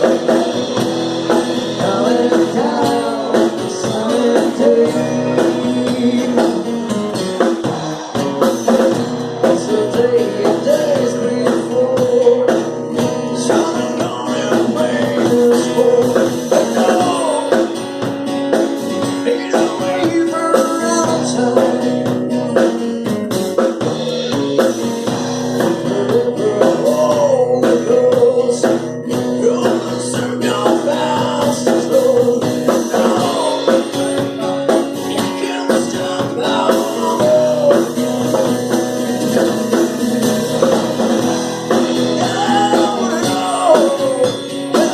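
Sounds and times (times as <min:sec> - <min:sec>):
guitar: 0:00.0 - 0:44.9
percussion: 0:00.0 - 0:44.9
person singing: 0:01.4 - 0:06.9, 0:07.6 - 0:17.8, 0:19.2 - 0:23.2, 0:24.0 - 0:38.5, 0:40.5 - 0:44.9.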